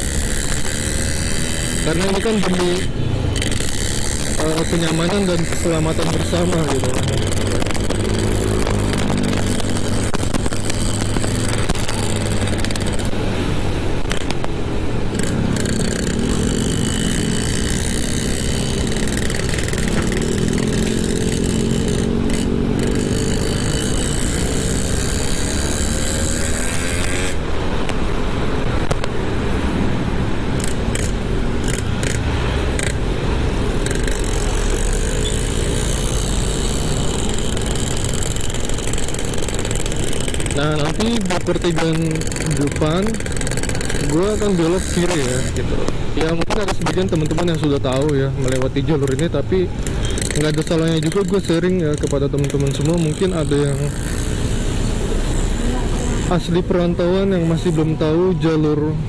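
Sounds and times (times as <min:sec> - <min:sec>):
motorcycle engine accelerating: 0:00.0 - 0:58.5.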